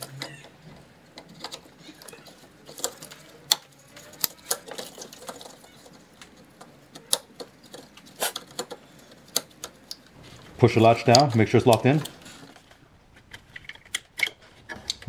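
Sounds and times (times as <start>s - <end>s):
plastic connectors clicking: 0.0s - 10.2s, 10.9s - 15.0s.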